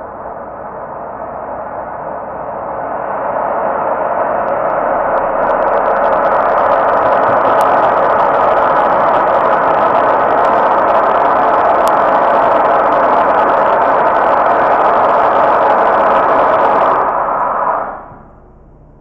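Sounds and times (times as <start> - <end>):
muffled gas turbine roar: 0.0 - 19.0.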